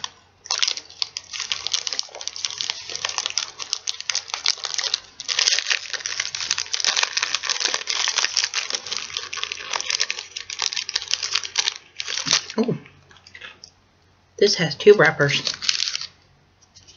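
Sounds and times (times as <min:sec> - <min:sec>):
wrapper crinkling: 0:00.0 - 0:13.6, 0:15.2 - 0:16.9.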